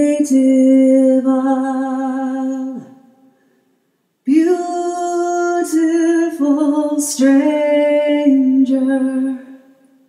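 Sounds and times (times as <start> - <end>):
woman singing unaccompanied: 0.0 - 3.2, 4.2 - 10.0.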